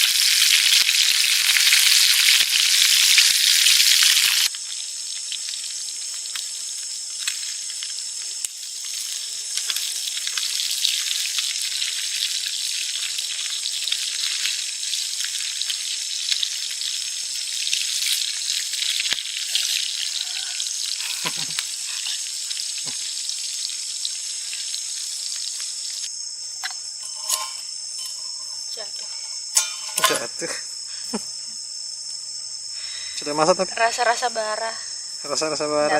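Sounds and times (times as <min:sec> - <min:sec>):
crickets chirping: 0:00.0 - 0:35.9
food sizzling over campfire: 0:00.0 - 0:35.9.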